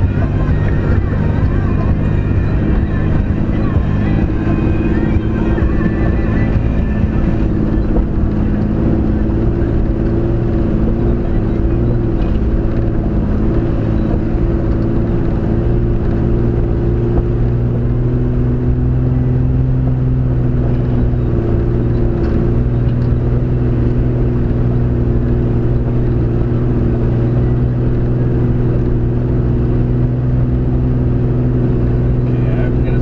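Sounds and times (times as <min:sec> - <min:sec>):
vehicle engine low drone: 0:00.0 - 0:33.0.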